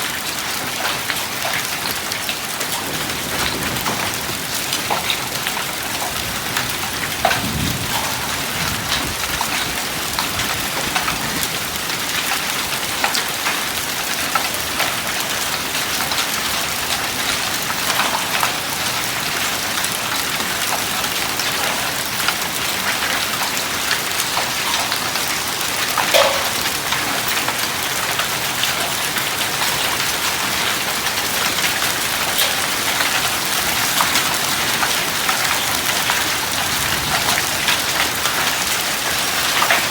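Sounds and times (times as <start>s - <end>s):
hailstones ticking: 0.0s - 39.9s.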